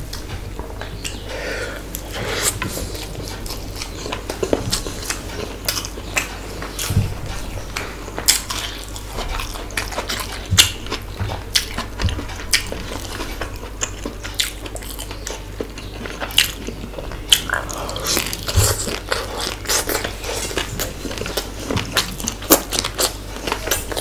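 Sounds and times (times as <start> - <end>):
person chewing and smacking: 0.1 - 24.0.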